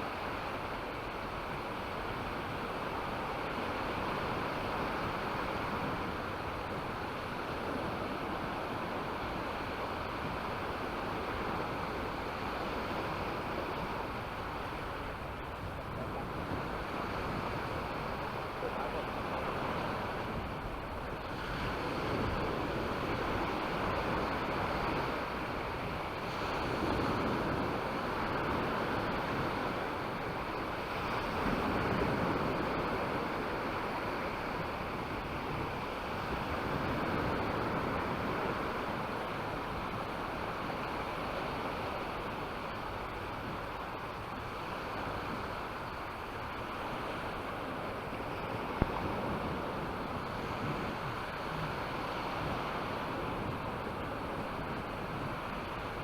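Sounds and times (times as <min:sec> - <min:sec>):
sea surf washing onto beach: 0:00.0 - 0:56.0
wind buffeting microphone: 0:01.5 - 0:56.0.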